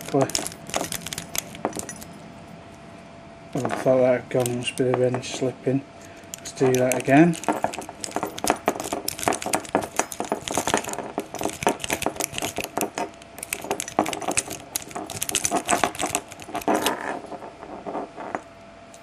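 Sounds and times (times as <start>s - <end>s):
lock pick raking metallic clicks: 0.0s - 2.1s, 3.6s - 17.2s.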